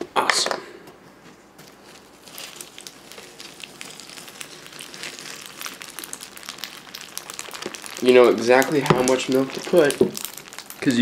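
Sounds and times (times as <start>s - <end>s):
cereal crackling: 1.6s - 11.0s
milk pouring onto cereal: 2.0s - 11.0s.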